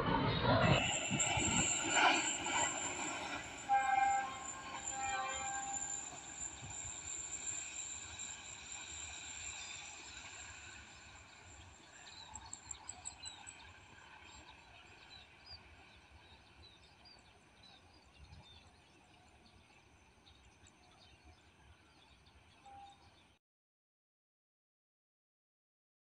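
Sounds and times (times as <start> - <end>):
low outdoor hum of train: 0.0 - 23.4.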